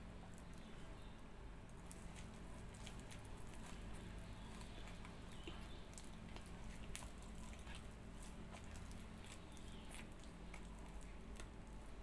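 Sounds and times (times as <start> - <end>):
low steady hum: 0.0 - 12.0
wet mouth sounds eating fruit: 1.7 - 12.0.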